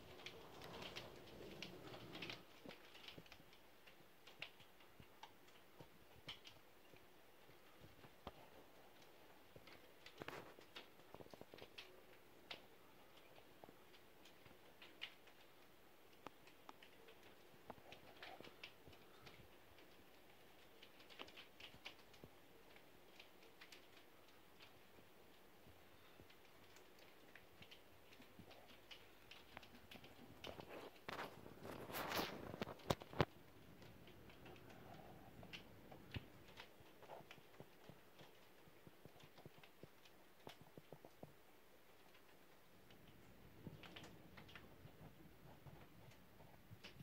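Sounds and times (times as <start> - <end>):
hailstones ticking on window: 0.0 - 47.0.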